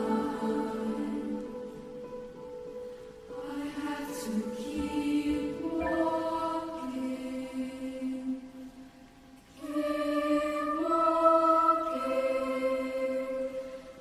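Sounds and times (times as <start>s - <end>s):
girls' choir singing: 0.0s - 2.0s, 3.3s - 8.8s, 9.5s - 14.0s.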